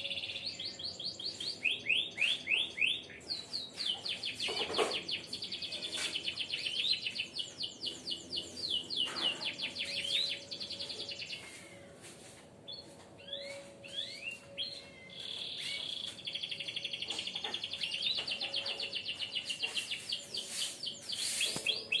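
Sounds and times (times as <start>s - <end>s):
songbirds trilling high chirps: 0.0s - 22.0s.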